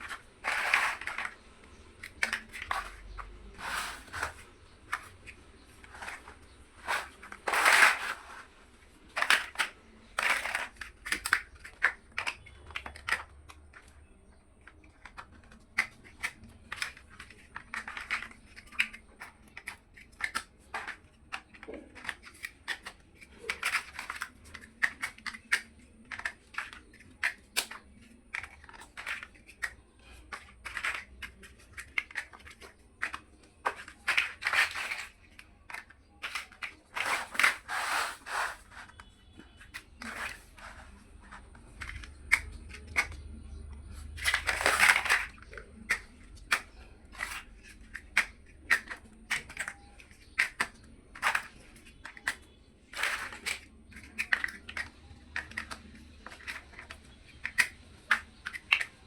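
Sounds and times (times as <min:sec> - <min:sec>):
plastic building blocks clicking: 0:00.0 - 0:59.0.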